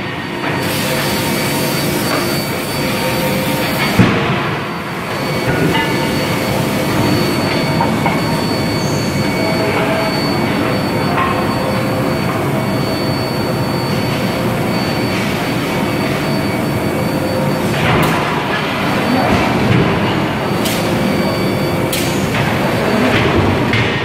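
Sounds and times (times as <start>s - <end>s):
industrial machinery rumble: 0.0s - 24.0s
thin high whine: 0.2s - 23.1s.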